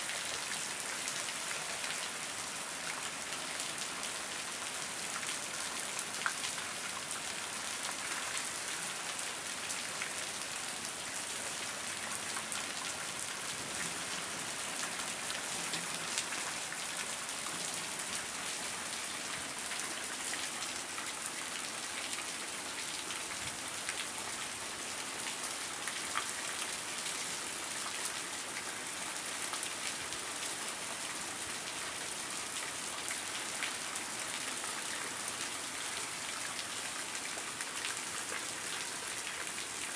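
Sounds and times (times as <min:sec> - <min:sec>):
heavy rain on wet street: 0:00.0 - 0:39.9.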